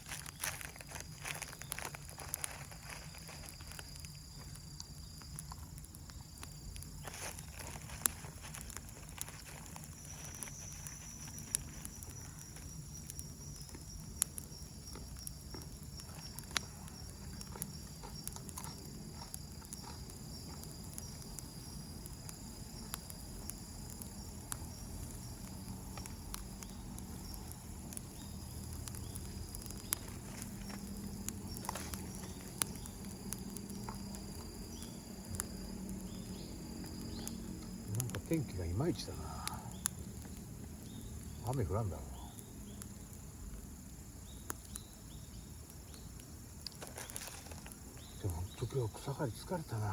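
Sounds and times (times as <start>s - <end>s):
campfire crackling: 0.0s - 49.9s
sharp pops and snaps: 0.0s - 49.9s.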